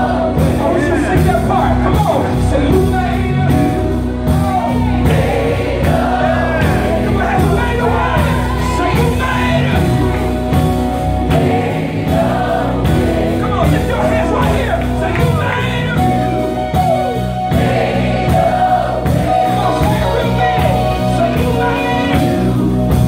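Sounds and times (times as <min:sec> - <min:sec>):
gospel group singing: 0:00.0 - 0:23.0
instrumental accompaniment: 0:00.0 - 0:23.0.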